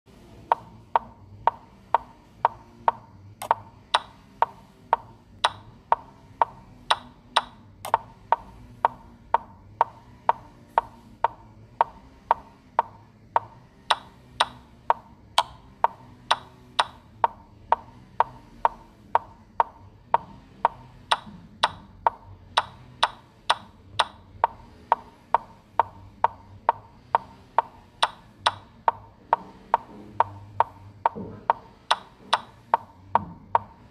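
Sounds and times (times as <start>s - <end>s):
sharp wooden chess clicks: 0.5s - 33.8s.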